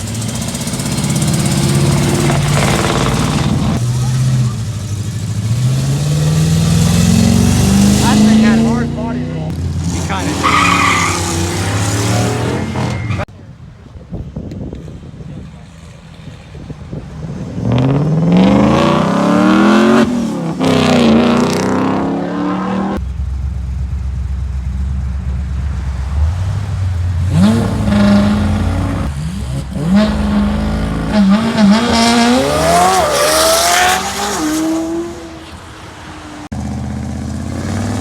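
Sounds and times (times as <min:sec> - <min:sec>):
car engines accelerating: 0:00.0 - 0:13.3, 0:14.8 - 0:38.0.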